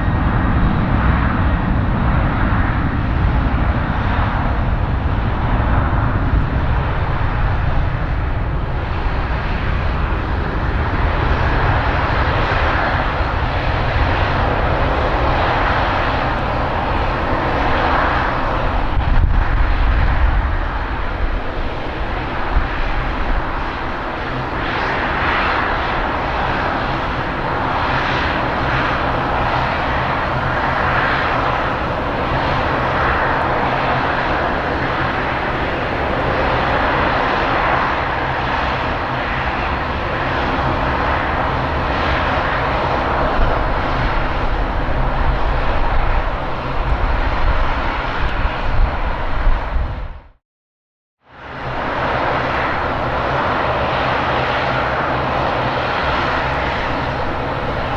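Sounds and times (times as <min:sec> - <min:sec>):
jet engines roaring: 0:00.0 - 0:50.3, 0:51.3 - 0:57.9.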